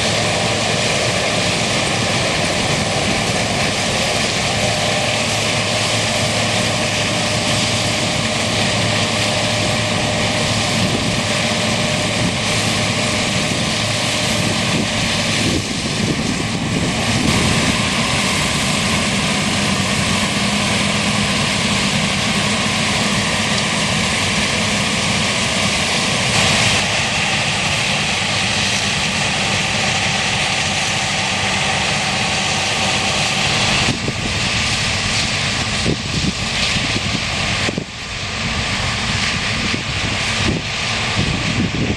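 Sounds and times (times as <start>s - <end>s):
combine harvester engine hum: 0.0s - 41.9s
threshing machinery rushing: 0.0s - 41.9s.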